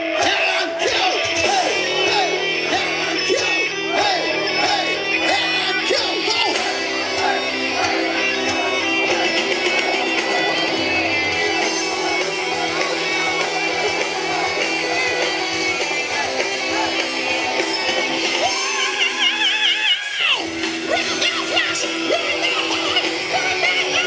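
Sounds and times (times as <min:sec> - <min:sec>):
heavy metal band playing live: 0:00.0 - 0:24.0
high wavering lead guitar line: 0:01.1 - 0:24.0.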